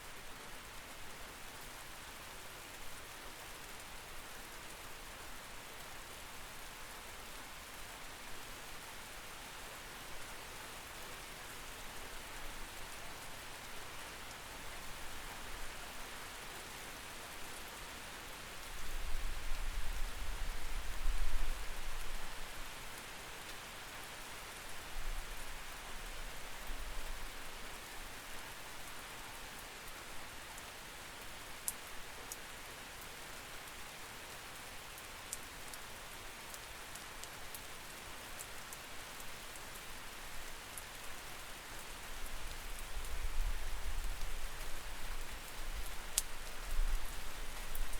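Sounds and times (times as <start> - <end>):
rain hissing through window: 0.0 - 47.9.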